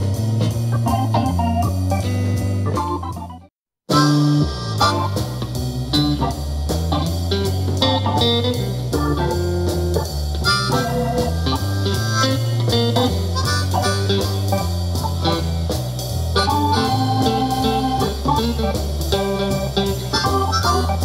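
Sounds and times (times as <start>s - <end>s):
blues music through a speaker: 0.0s - 21.0s.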